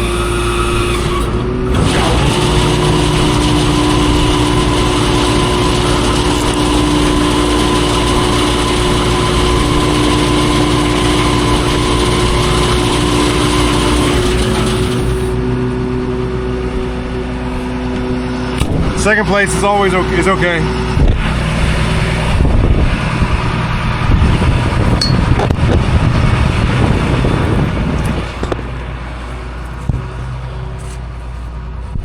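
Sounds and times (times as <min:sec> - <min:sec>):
tractor engine revving: 0:00.0 - 0:32.0.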